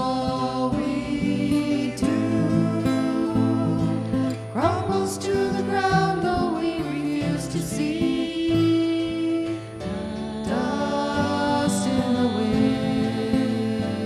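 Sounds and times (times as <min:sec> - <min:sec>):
acoustic guitar: 0:00.0 - 0:14.0
person singing long notes: 0:00.0 - 0:14.0.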